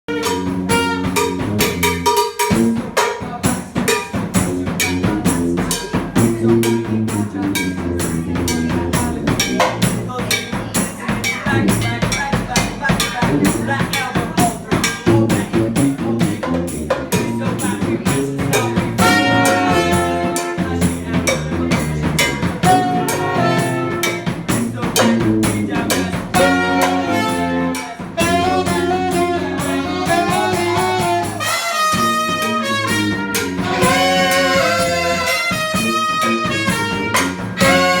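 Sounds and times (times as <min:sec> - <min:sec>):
live band playing: 0:00.1 - 0:38.0
steady drum beat: 0:00.1 - 0:38.0.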